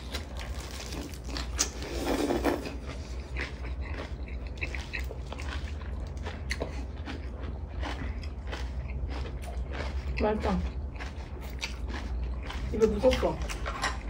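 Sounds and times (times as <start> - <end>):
low steady hum: 0.0 - 14.0
people chewing food: 0.0 - 14.0.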